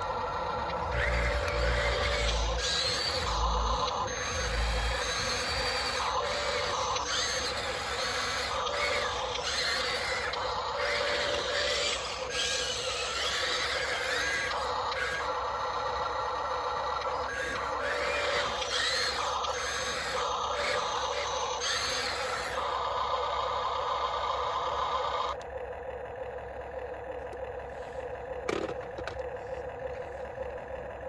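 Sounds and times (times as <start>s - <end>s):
steady hum: 0.0s - 25.5s
small electric motors whining: 0.0s - 31.0s.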